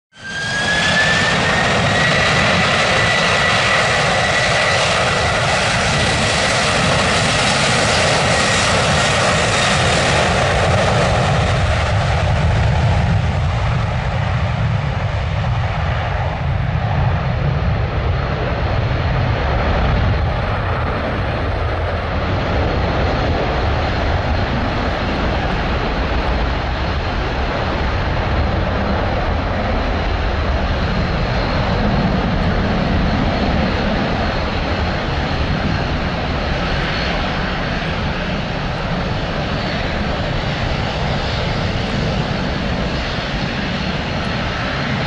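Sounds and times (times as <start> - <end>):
jet engine whine: 0.1 - 45.0
jet engines rumbling: 0.1 - 45.0.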